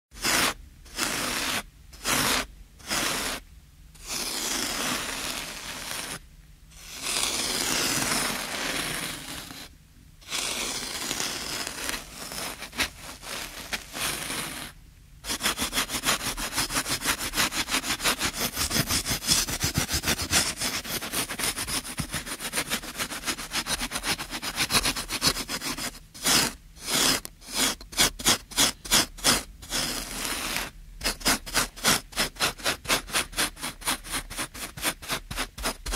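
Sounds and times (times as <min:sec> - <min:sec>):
scraping and scratching: 0:00.2 - 0:03.4, 0:04.0 - 0:06.2, 0:06.8 - 0:09.7, 0:10.3 - 0:35.9.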